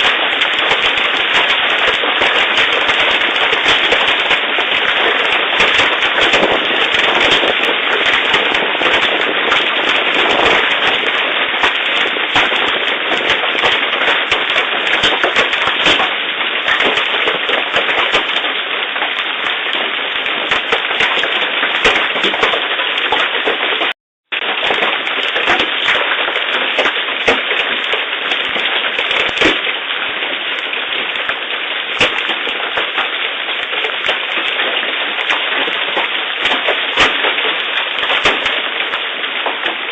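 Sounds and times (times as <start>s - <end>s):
hailstones pelting down: 0.0s - 39.9s
rain: 0.0s - 39.9s.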